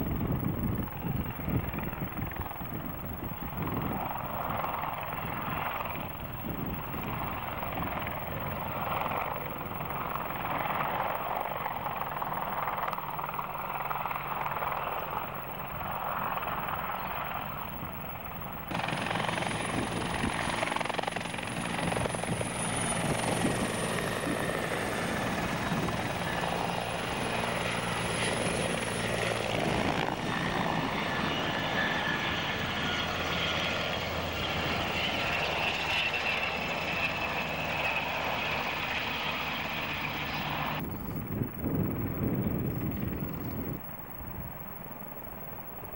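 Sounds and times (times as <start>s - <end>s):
helicopter rotor beat: 0.0s - 45.9s
helicopter turbine whine: 0.0s - 45.9s.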